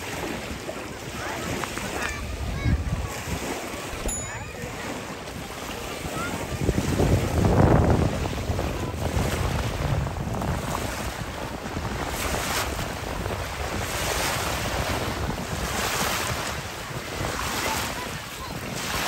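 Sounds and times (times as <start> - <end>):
small waves washing on beach: 0.0 - 19.0
wind buffeting microphone: 0.0 - 19.0.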